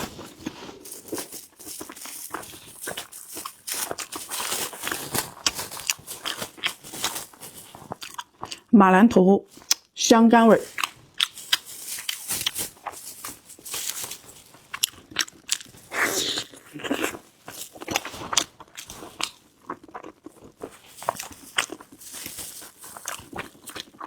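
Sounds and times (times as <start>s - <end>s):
close chewing with mouth clicks: 0.1s - 8.7s, 9.5s - 10.0s, 10.6s - 24.0s.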